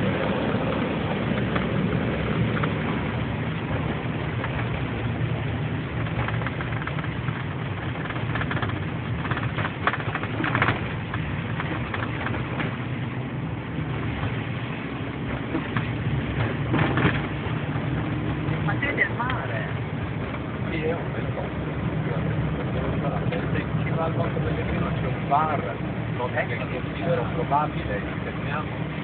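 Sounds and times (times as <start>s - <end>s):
car engine and road noise: 0.0s - 29.0s.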